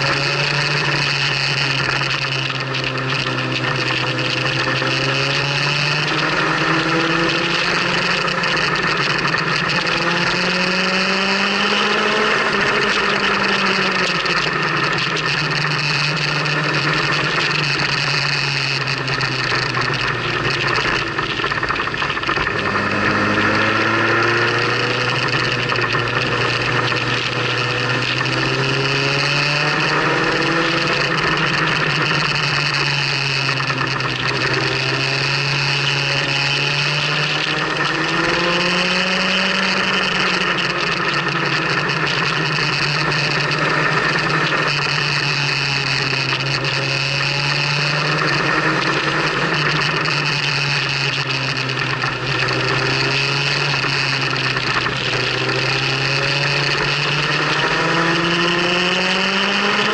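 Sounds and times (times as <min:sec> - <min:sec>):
motorcycle engine running: 0:00.0 - 0:59.9
wind and road rush: 0:00.0 - 0:59.9.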